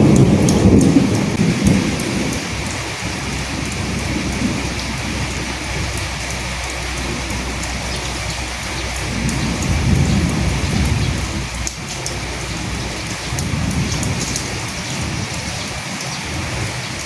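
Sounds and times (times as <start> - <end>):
low rumble: 0.0 - 15.6
heavy rain falling: 0.0 - 17.0.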